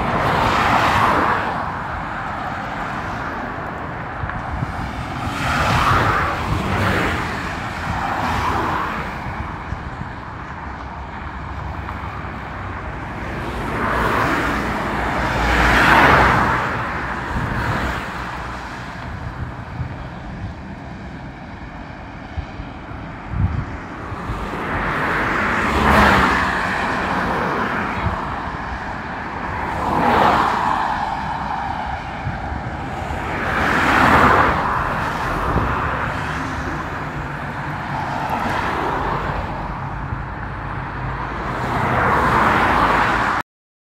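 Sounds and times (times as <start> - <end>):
cars passing at speed: 0.0 - 43.4.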